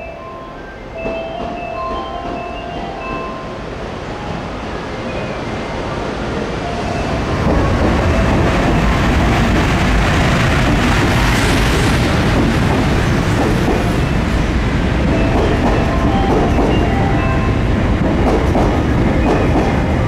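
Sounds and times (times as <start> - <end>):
train wheels rumbling past: 0.8 - 20.0.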